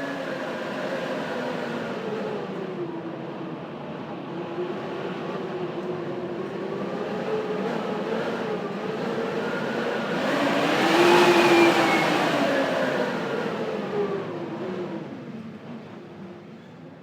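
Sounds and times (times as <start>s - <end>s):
blizzard wind howling: 0.0s - 15.4s.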